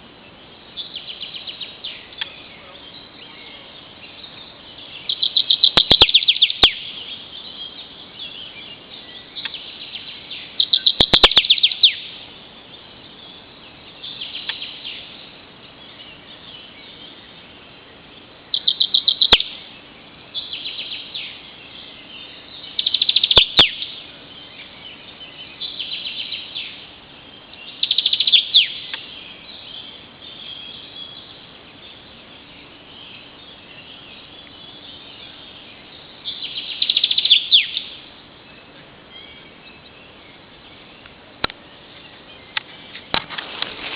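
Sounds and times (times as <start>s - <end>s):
songbirds singing: 0.0s - 43.9s.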